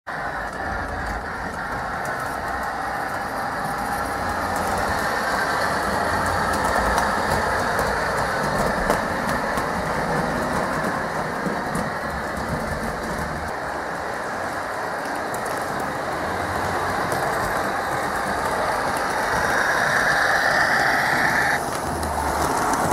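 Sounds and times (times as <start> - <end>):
model train running rumble: 0.1 - 22.9
wheels clicking over rail joints: 0.1 - 22.9.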